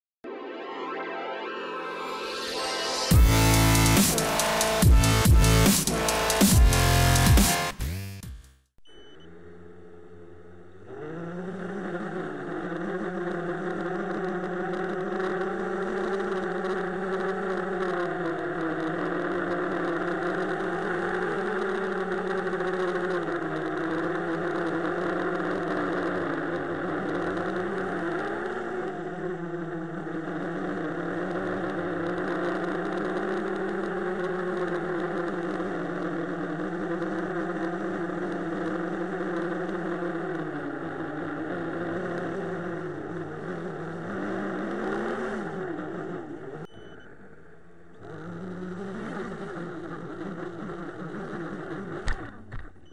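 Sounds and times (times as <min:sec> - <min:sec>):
drone motors and propellers buzzing: 0:01.6 - 0:52.9.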